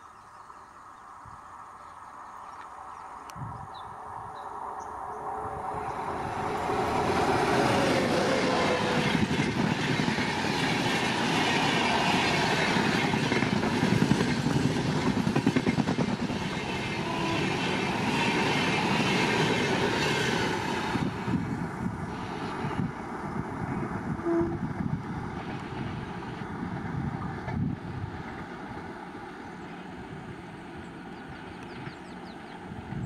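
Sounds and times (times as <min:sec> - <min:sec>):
train rushing past: 0:03.9 - 0:33.0.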